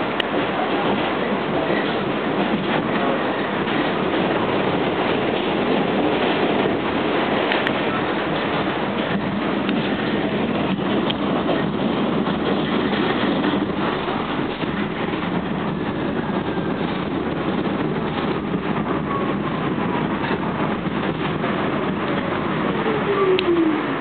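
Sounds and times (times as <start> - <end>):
subway train rumbling on rails: 0.0 - 24.0
train clicks and rattles: 0.0 - 24.0.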